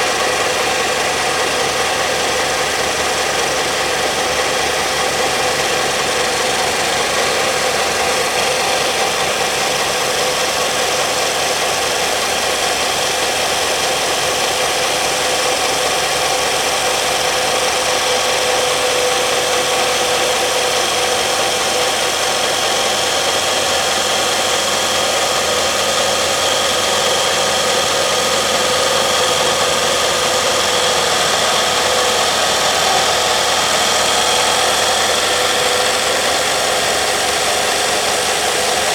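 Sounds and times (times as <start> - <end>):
belt sander running: 0.0 - 38.9.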